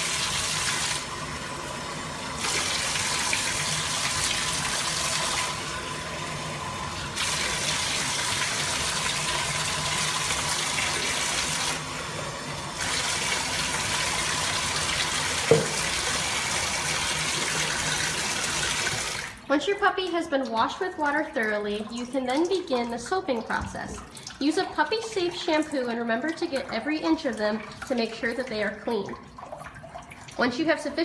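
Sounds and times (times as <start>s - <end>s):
faucet water running: 0.0s - 31.0s.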